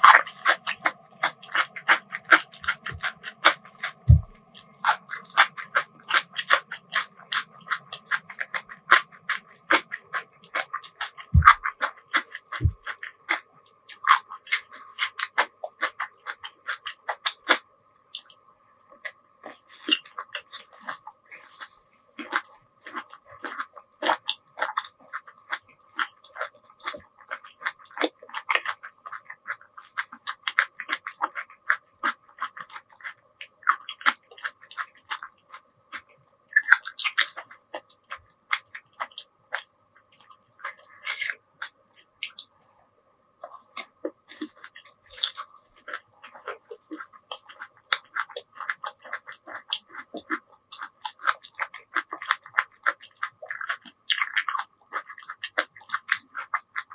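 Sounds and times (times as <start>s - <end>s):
faint steady hum: 0.0s - 56.9s
wet chewing and clicks: 0.0s - 56.9s.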